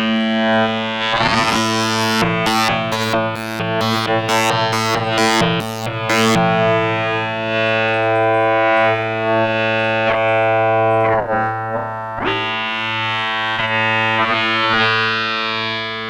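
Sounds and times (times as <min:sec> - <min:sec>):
modular synthesizer drone: 0:00.0 - 0:16.0.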